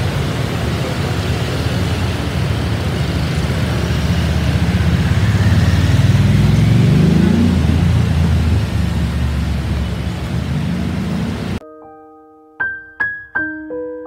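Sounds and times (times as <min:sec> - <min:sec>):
diesel train engine pulsing: 0:00.0 - 0:11.6.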